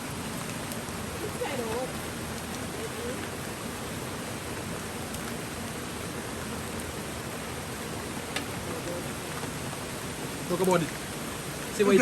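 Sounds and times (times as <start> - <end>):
rain falling: 0.0 - 12.0
river water flowing: 0.0 - 12.0.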